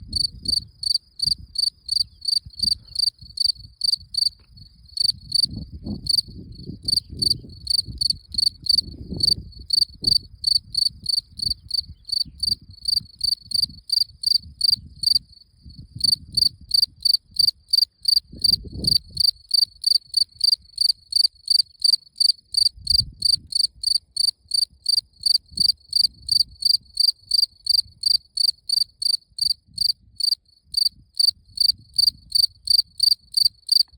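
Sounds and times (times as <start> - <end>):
cricket chirping: 0.0 - 33.9.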